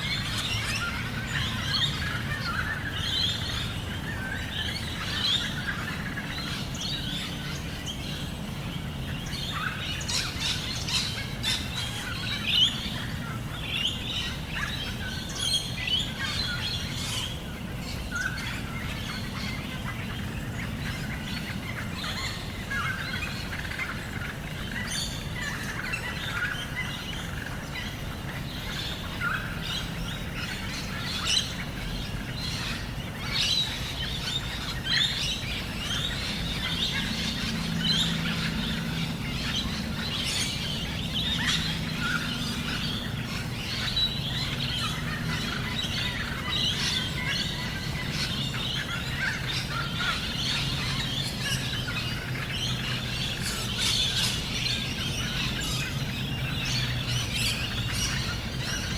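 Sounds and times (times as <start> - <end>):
birds chirping and calling: 0.0 - 58.9
low outdoor hum: 0.0 - 58.9.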